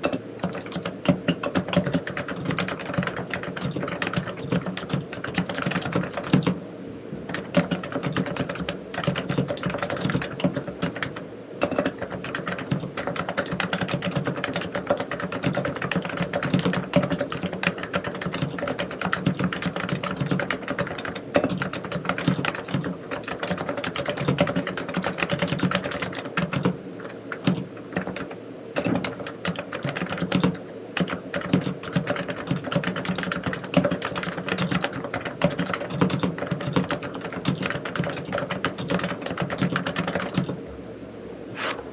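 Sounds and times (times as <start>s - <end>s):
fast typing on keyboard: 0.0s - 6.6s, 7.3s - 40.6s.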